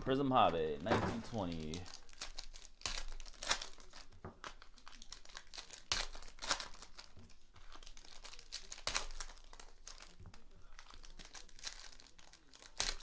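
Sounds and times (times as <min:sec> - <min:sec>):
foil wrappers crinkling and tearing: 0:00.8 - 0:13.0.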